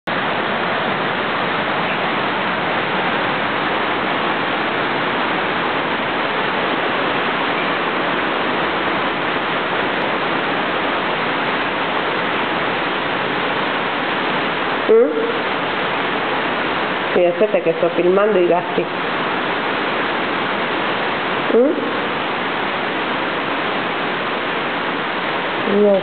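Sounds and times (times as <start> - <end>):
steady hiss: 0.1 - 26.0.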